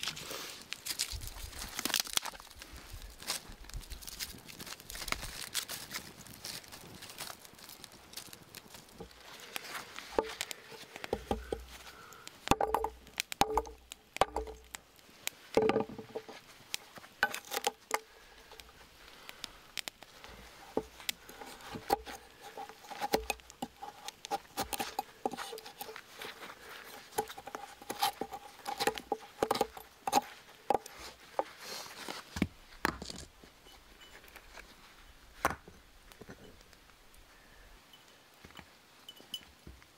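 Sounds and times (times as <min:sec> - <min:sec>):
twigs snapping: 0:00.0 - 0:33.2
fire crackling and popping: 0:00.0 - 0:33.3.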